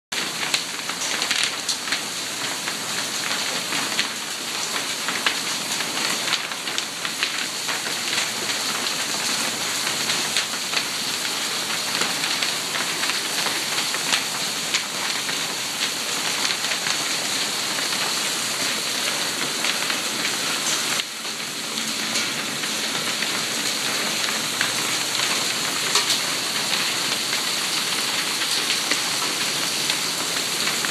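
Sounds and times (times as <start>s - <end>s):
hail and heavy rain on gravel: 0.2s - 30.9s.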